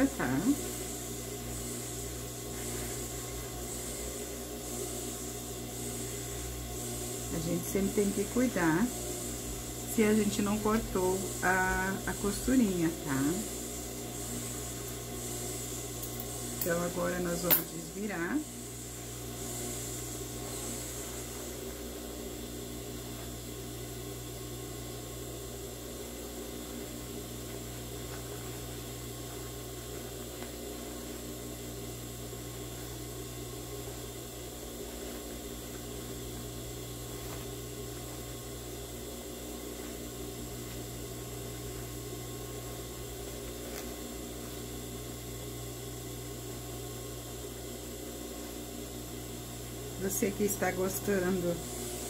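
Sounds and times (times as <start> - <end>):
low mechanical hum: 0.0 - 52.0.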